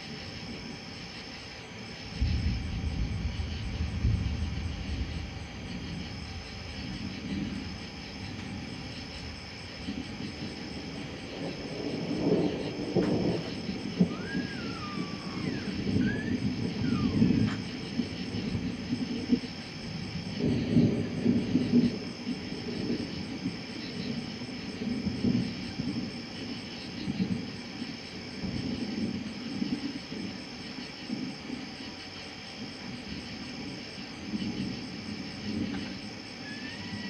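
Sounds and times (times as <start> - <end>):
insects chorus: 0.0 - 37.0
thunder rumbling: 0.0 - 37.0.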